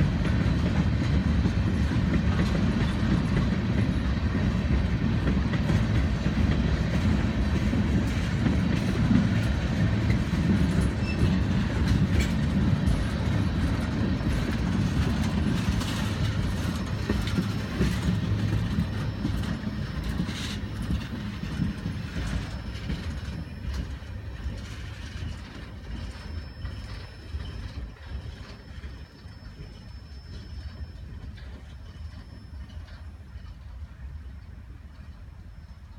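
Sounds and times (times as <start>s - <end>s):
sharp train clanks: 0.0s - 35.9s
train wheels rumbling on rails: 0.0s - 35.9s.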